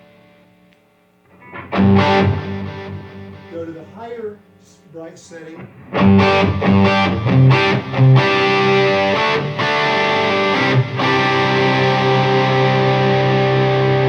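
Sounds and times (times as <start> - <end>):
overdriven electric guitar chords: 0.0 - 4.7, 5.6 - 14.0.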